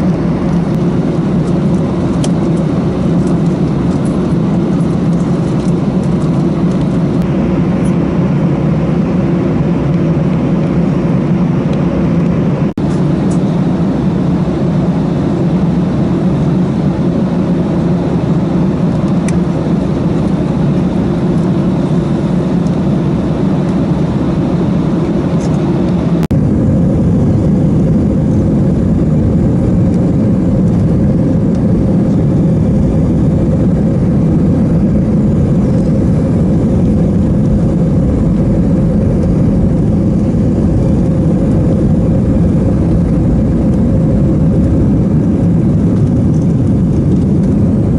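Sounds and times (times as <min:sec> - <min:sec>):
jet engine rumble: 0:00.0 - 0:47.9.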